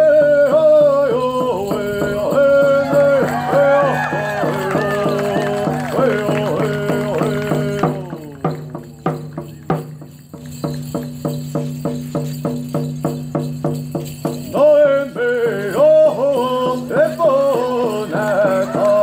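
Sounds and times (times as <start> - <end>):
drum beating steadily: 0.0 - 19.0.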